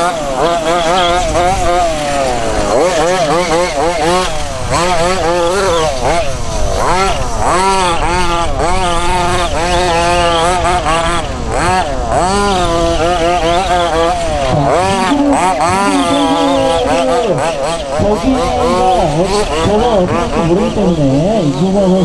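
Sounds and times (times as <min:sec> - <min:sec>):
lower steady engine: 0:00.0 - 0:22.0
two-stroke engines revving: 0:00.0 - 0:22.0.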